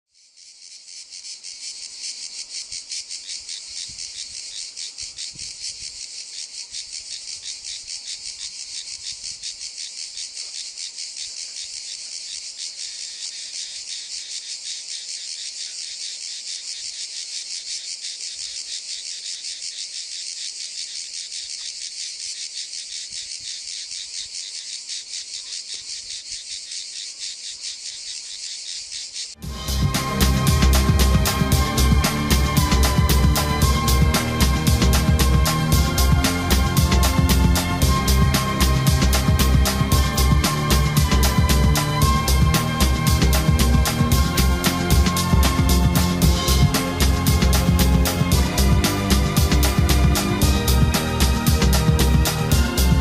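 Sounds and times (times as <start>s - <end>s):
insects chirping: 0.1s - 53.0s.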